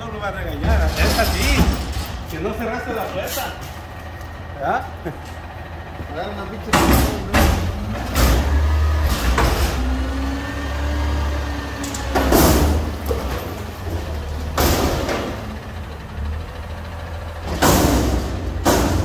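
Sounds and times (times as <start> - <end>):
garbage truck engine under load: 0.0 - 19.0
hydraulic forks lifting dumpster: 0.0 - 19.0
loud bursts from truck and dumpster: 0.0 - 19.0.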